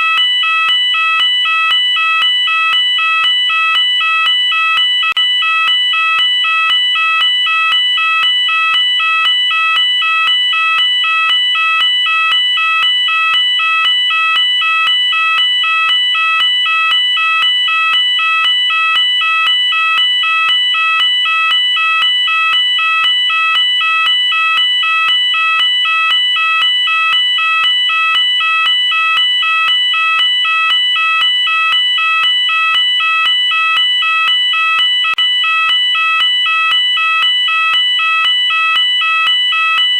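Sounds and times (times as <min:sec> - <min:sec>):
two-pitch fire alarm sounder: 0:00.0 - 0:39.9.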